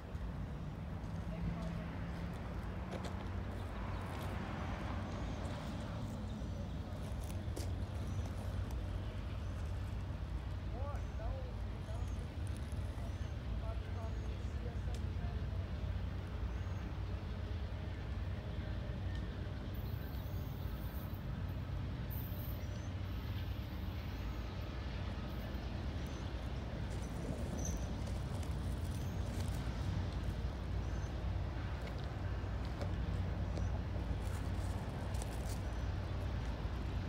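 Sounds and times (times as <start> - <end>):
diesel locomotive rumble: 0.0 - 37.0.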